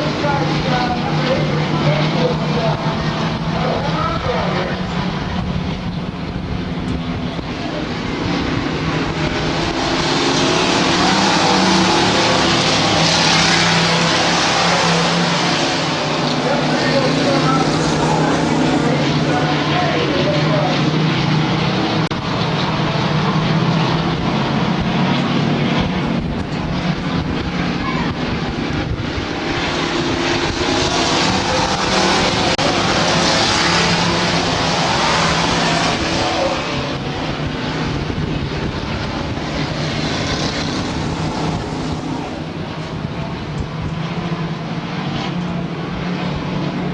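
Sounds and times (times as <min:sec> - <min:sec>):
race truck engines at speed: 0:00.0 - 0:46.9.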